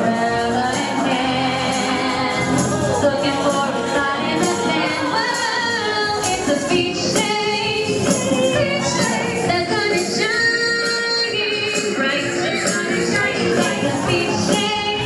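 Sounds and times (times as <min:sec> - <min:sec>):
live band playing pop song: 0:00.0 - 0:15.0
women singing: 0:00.0 - 0:15.0.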